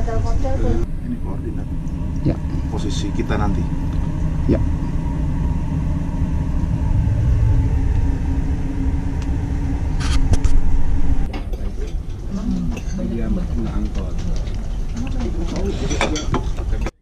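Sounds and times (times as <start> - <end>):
ship engines rumbling: 0.0 - 16.8
steady hum: 0.0 - 16.9.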